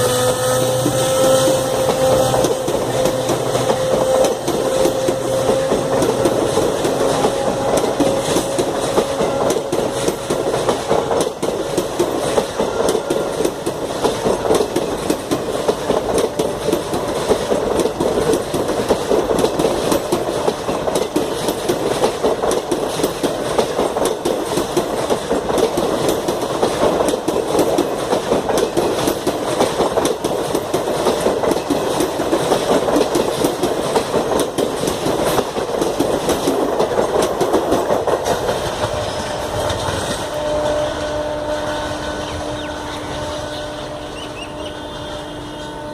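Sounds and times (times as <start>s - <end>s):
wheels clacking over rail joints: 0.0s - 45.4s
train passing at speed: 0.0s - 45.9s.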